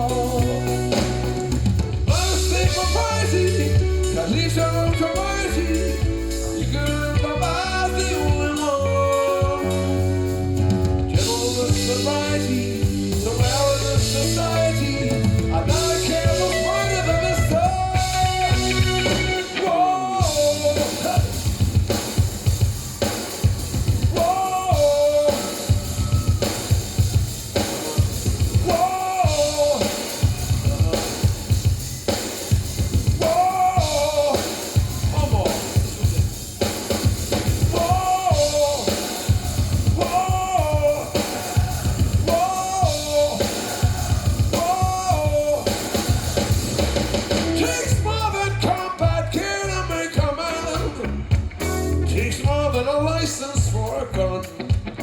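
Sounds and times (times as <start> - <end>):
music over loudspeakers: 0.0 - 55.0.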